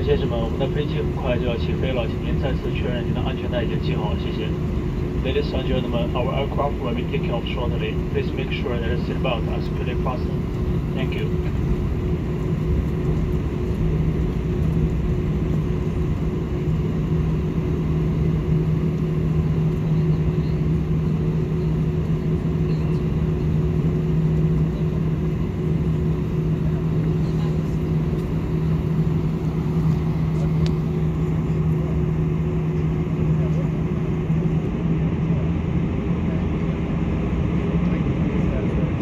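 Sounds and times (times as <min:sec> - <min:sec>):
airliner engines humming: 0:00.0 - 0:39.0.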